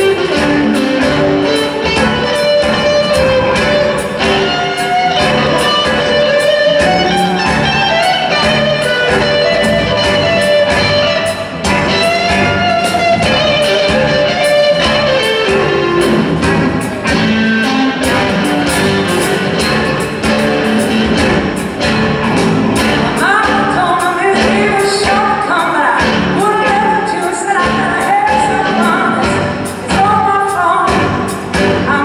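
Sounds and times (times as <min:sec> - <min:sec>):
bass: 0:00.0 - 0:32.0
drums and cymbals: 0:00.0 - 0:32.0
electric guitar lead lines: 0:00.0 - 0:32.0.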